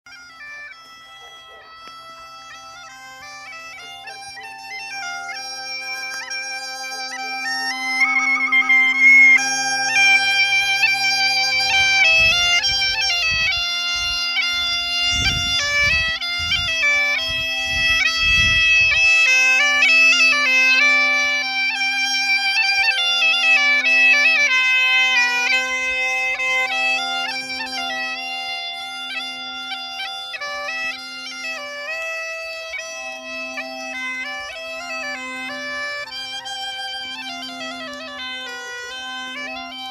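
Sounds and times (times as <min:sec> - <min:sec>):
bagpipe playing tune: 0:00.1 - 0:39.9.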